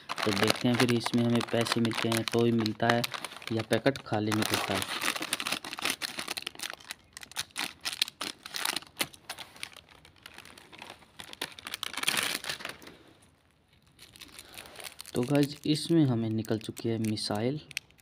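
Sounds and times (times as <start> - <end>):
plastic packet crinkling: 0.0 - 13.1, 13.7 - 18.0.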